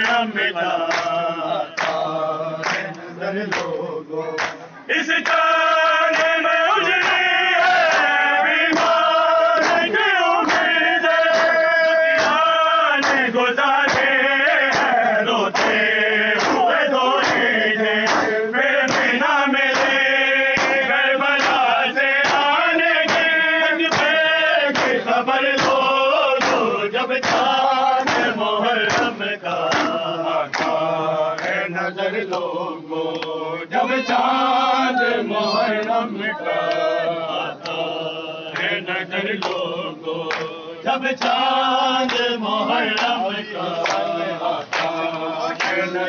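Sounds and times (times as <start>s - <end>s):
men chanting together: 0.0s - 46.0s
rhythmic chest-beating: 0.0s - 46.0s.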